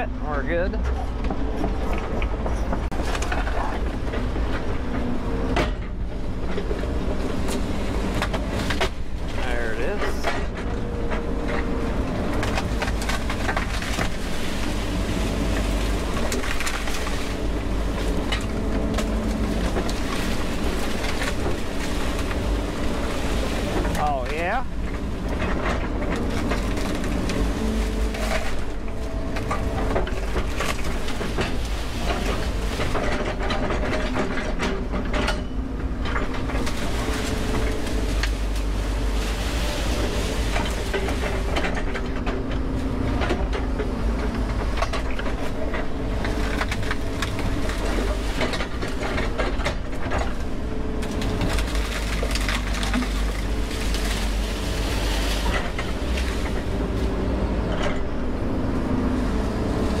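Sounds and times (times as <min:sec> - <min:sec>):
bucket and tracks clanking: 0:00.0 - 1:00.0
excavator diesel engine running: 0:00.0 - 1:00.0.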